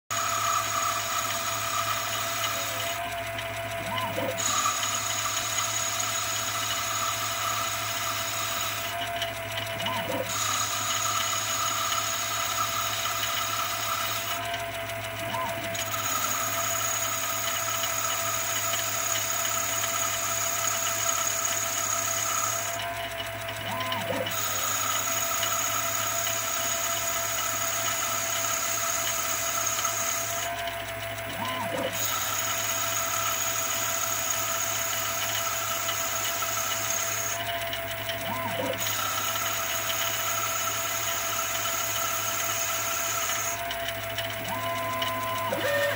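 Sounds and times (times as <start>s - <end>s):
lathe spindle whine: 0.0s - 45.9s.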